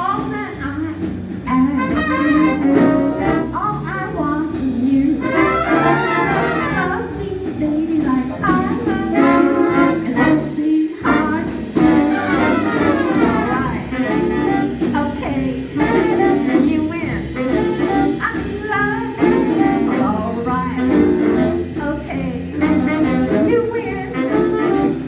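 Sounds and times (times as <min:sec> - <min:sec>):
swing band playing jazz: 0:00.0 - 0:25.0.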